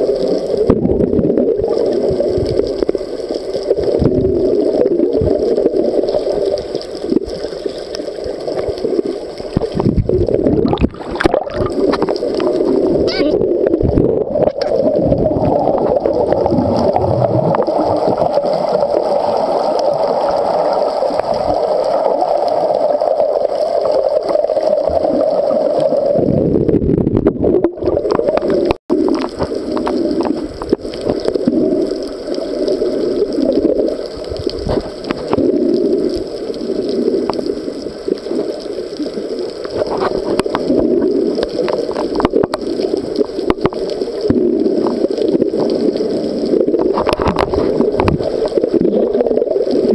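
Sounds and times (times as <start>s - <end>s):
muffled underwater rush and gurgling: 0.0s - 49.9s.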